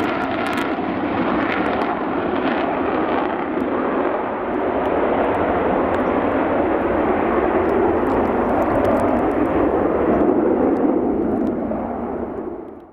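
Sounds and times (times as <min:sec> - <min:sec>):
jet engine noise: 0:00.0 - 0:12.9.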